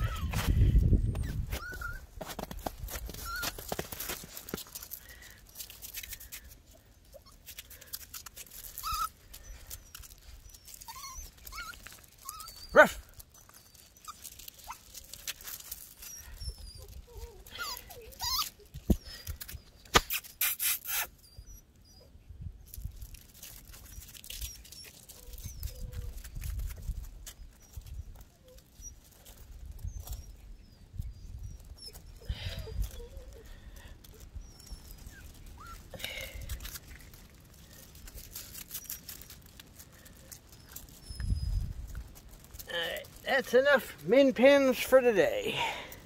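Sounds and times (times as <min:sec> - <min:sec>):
paws scuffling on gravel: 0:00.0 - 0:19.9, 0:22.7 - 0:46.0
puppies whimpering and yipping: 0:00.0 - 0:22.2, 0:23.3 - 0:43.8.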